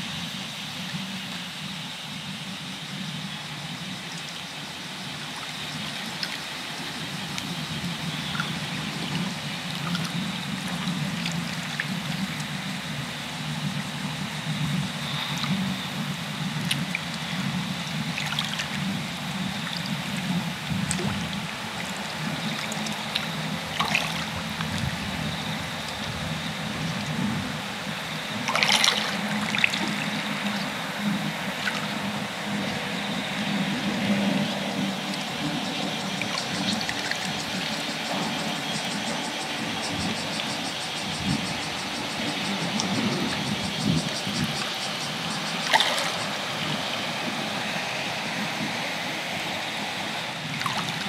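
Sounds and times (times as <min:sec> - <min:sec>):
water lapping among reeds: 0:00.0 - 0:51.0.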